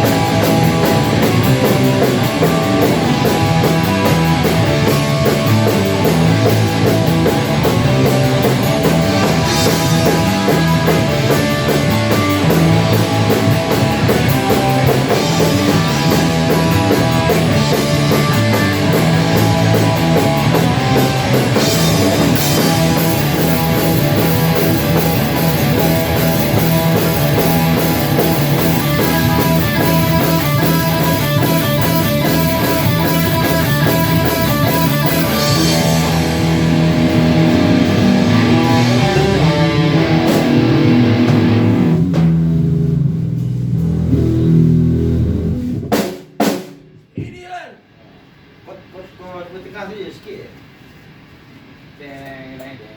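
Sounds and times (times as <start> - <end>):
rock band playing: 0.0 - 47.1
guitar: 0.0 - 47.3
drum kit: 0.0 - 48.9.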